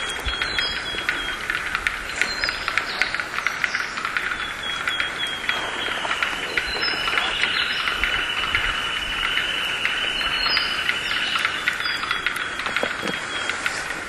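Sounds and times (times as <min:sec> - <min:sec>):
bird chorus: 0:00.0 - 0:14.0
sharp clicks: 0:00.0 - 0:14.0.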